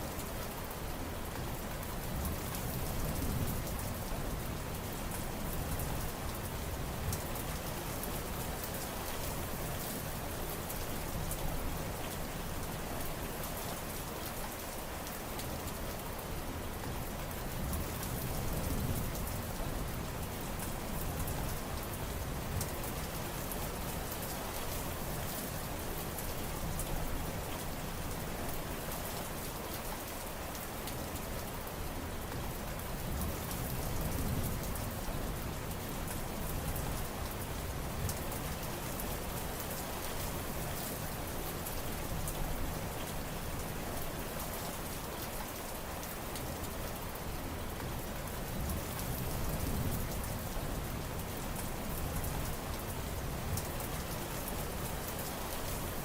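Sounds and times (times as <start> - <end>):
heavy rainfall hiss: 0.0 - 56.0.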